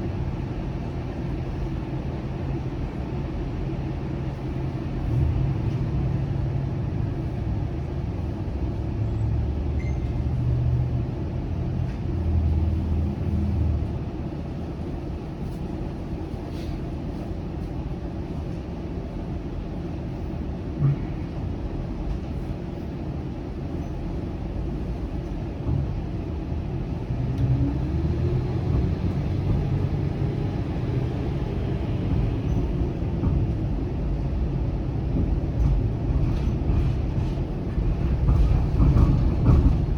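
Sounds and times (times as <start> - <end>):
streetcar wheels rumbling: 0.0 - 39.9.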